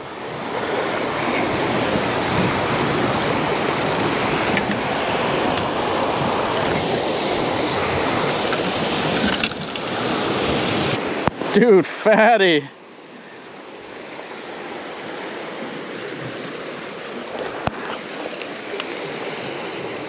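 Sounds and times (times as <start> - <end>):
ocean surf washing against rocks: 0.0 - 12.7, 13.8 - 20.0.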